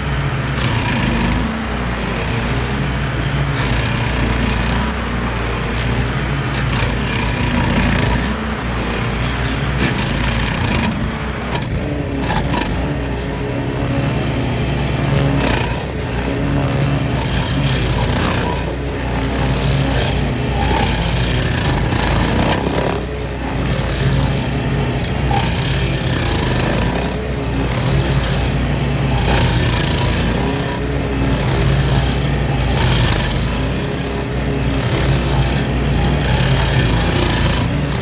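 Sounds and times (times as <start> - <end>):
small gasoline engine running: 0.0 - 38.0.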